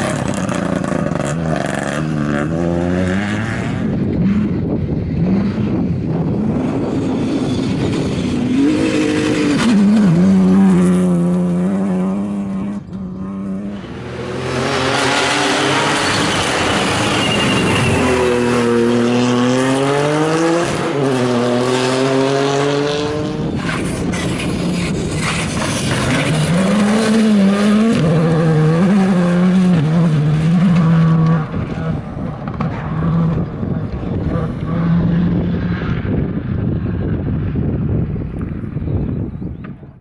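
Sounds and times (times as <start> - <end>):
rally car engines revving: 0.0 - 37.6.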